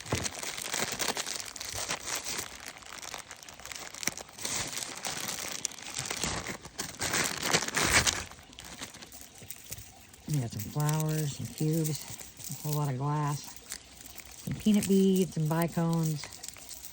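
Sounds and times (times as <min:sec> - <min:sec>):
plastic bag crinkling: 0:00.0 - 0:16.9.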